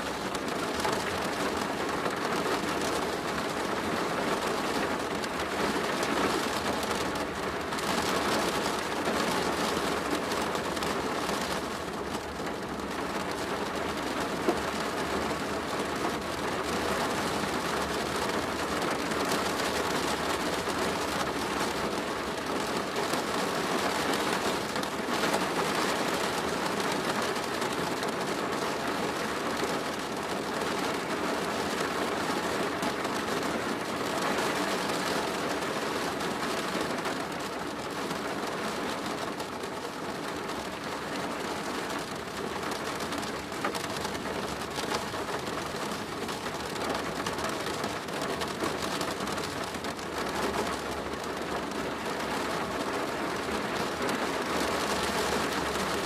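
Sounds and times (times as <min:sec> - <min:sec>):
rain on a plastic roof: 0:00.0 - 0:56.0.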